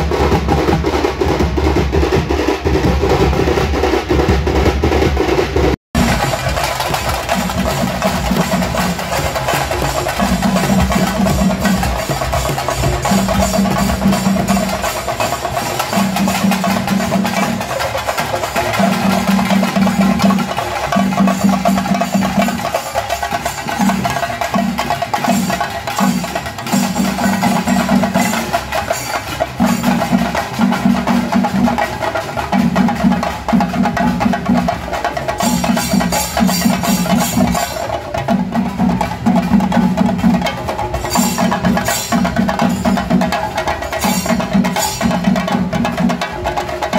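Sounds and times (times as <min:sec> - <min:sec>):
frame drums beaten with sticks: 0:00.0 - 0:46.9.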